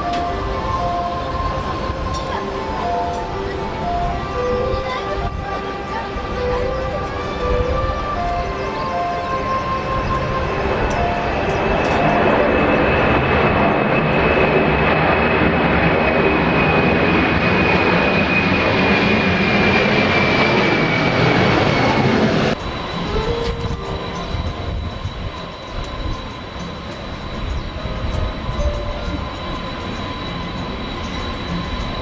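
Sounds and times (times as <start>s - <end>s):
high steady whistle: 0.0s - 32.0s
jet engines roaring with whine: 0.0s - 32.0s.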